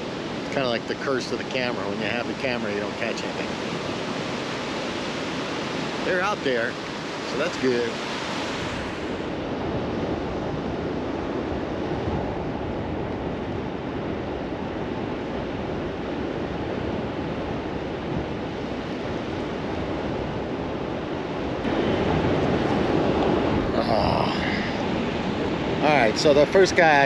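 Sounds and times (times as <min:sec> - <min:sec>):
ocean surf breaking: 0:00.0 - 0:27.0
wind on microphone: 0:00.0 - 0:27.0.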